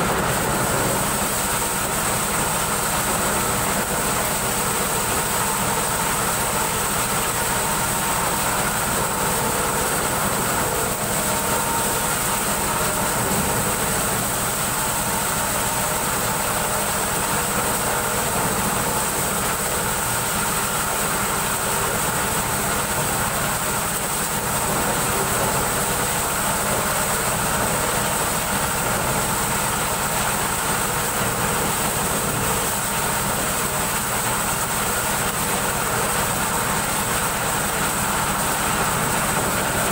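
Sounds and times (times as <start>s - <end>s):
corn sheller mechanical drone: 0.0s - 39.9s.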